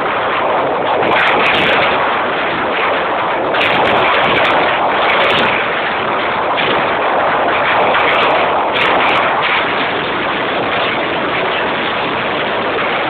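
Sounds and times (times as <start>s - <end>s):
rapid firework explosions: 0.0s - 13.0s.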